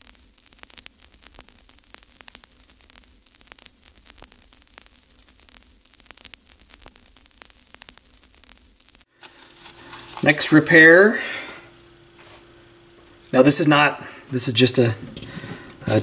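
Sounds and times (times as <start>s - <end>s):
crackling static clicks and pops: 0.0s - 16.0s
steady hiss: 0.0s - 16.0s.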